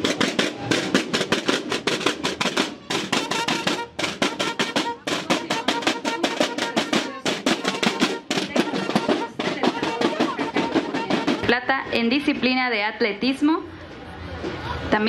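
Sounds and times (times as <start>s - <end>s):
marching drums: 0.0s - 12.6s.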